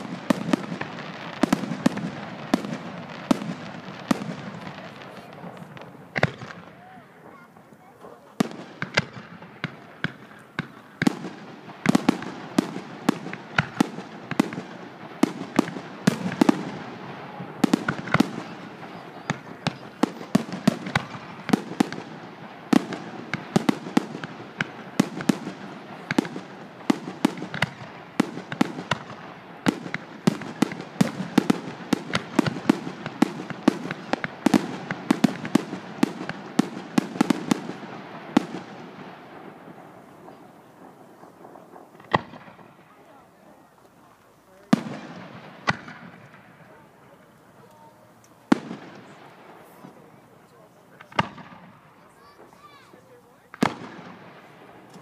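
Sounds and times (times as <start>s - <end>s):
fireworks bursting with sharp bangs: 0.0s - 55.0s
fireworks crackling: 0.0s - 55.0s.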